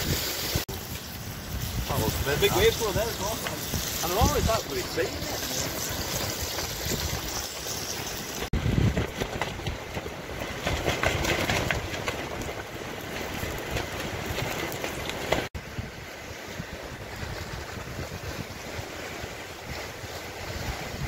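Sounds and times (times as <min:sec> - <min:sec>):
strong wind rumbling on microphone: 0:00.0 - 0:21.0.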